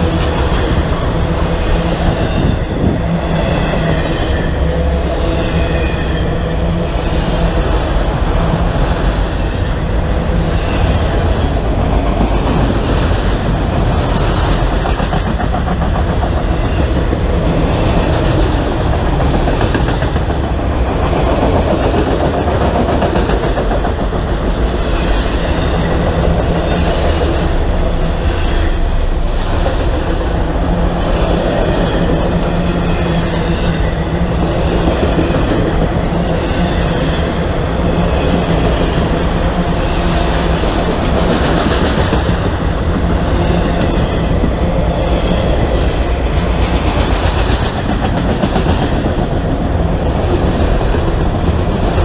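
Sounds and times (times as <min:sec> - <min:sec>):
train wheels rumbling and clacking: 0:00.0 - 0:52.0.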